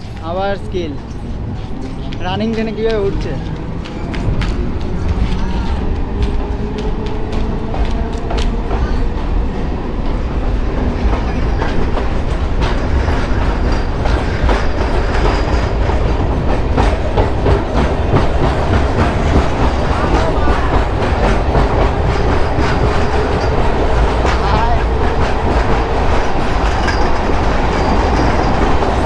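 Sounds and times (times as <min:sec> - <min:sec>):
electric train rumbling: 0:00.0 - 0:29.0
wheels clacking over rail joints: 0:00.0 - 0:29.0.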